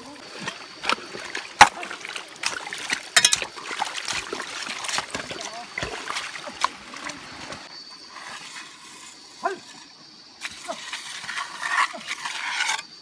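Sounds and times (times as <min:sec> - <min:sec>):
hoe scraping wet mud: 0:00.0 - 0:13.0.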